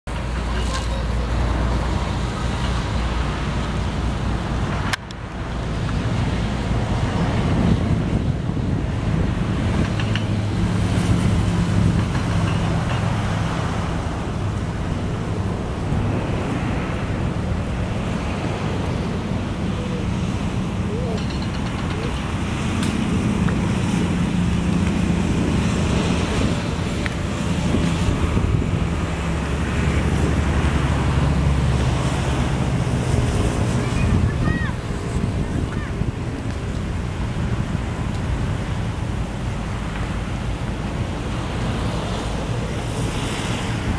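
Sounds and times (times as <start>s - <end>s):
distant airliner: 0.1s - 43.9s
wind rumble on microphone: 0.1s - 43.9s.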